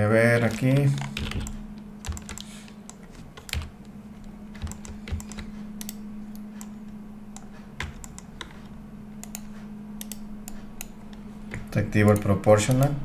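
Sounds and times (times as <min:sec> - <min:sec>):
low hum: 0:00.0 - 0:13.0
keyboard and mouse clicks: 0:00.4 - 0:12.9.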